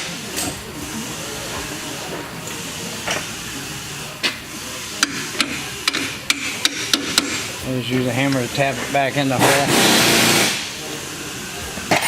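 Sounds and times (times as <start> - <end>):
shop background hiss: 0.0 - 12.0.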